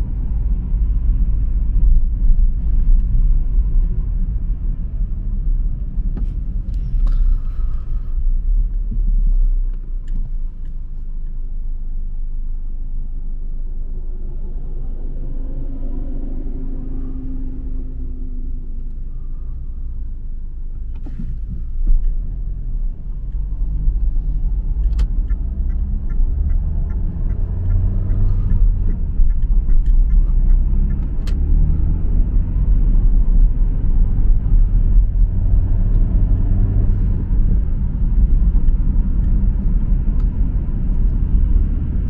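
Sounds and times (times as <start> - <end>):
engine and tyre rumble: 0.0 - 42.0.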